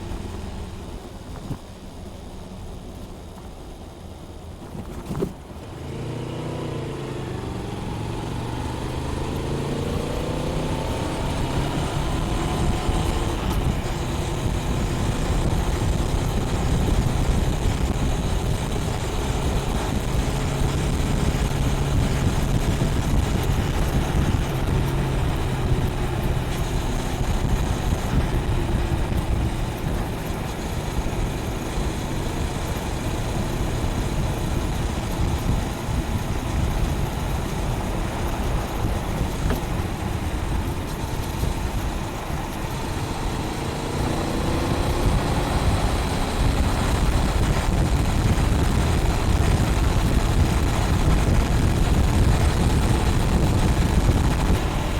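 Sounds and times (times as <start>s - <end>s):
wind rushing over microphone: 4.6s - 54.9s
motorcycle engine revving and droning: 5.6s - 54.9s.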